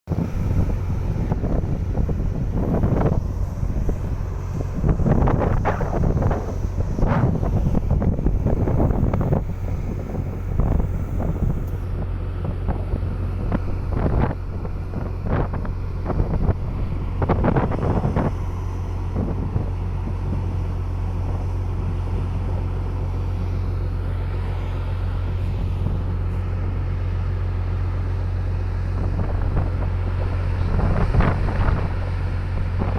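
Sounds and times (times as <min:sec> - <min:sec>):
ship engines droning: 0:00.1 - 0:32.9
wind gusting on microphone: 0:00.1 - 0:32.9.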